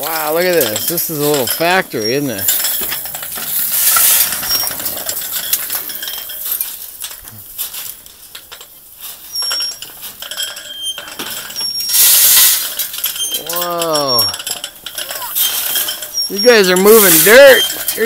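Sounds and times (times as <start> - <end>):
gravel rattling against metal: 0.0 - 18.0.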